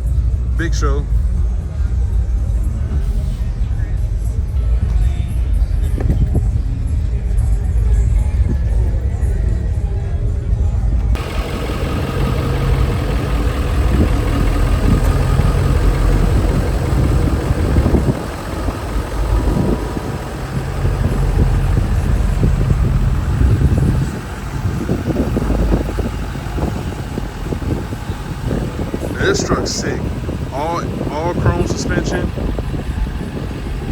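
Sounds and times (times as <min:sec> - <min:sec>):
vehicle engine rumbling: 0:00.0 - 0:33.9.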